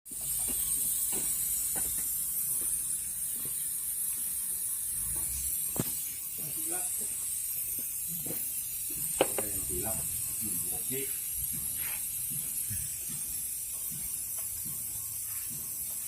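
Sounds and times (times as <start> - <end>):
spray paint hissing: 0.1 - 16.0.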